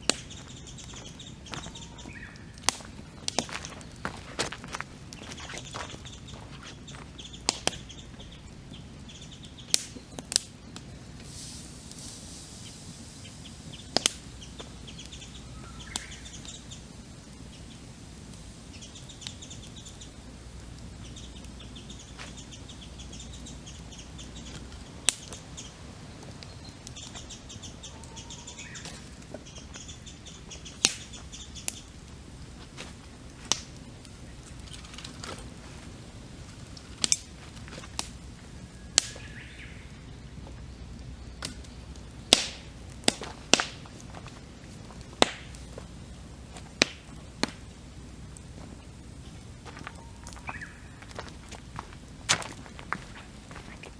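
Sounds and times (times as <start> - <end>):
campfire crackling and popping: 0.0 - 53.9
songbirds trilling: 0.0 - 53.9.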